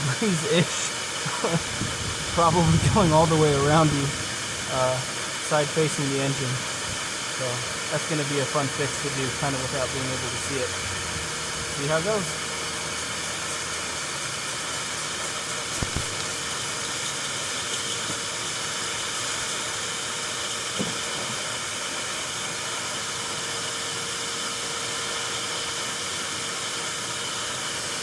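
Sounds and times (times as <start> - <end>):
shop vac blowing air: 0.0 - 28.0.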